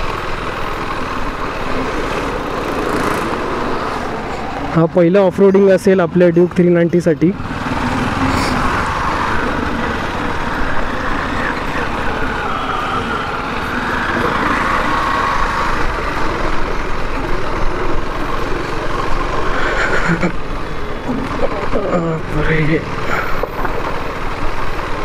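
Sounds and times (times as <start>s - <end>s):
tyres on dirt road: 0.0s - 25.0s.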